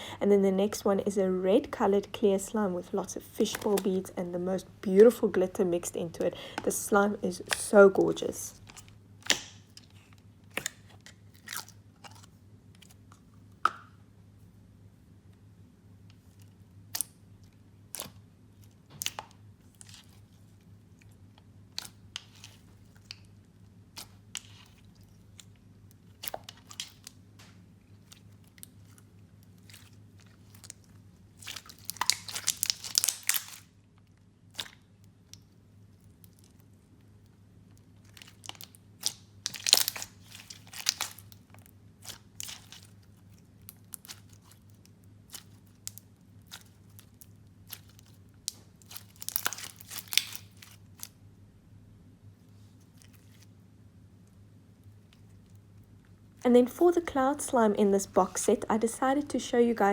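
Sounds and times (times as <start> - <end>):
crunchy slime crackling: 0.7 - 13.8, 16.1 - 51.3, 52.6 - 58.7.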